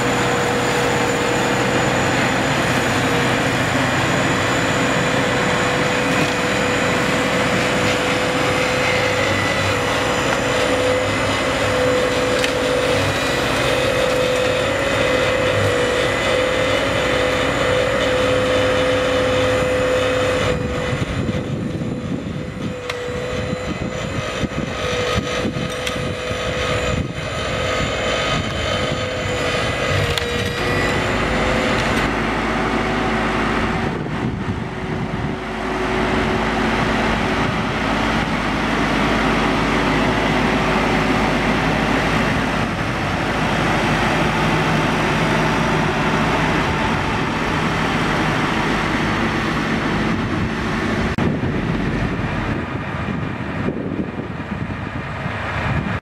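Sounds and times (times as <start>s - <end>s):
mower flail head whining: 0.0s - 54.7s
tractor engine running: 0.0s - 56.0s.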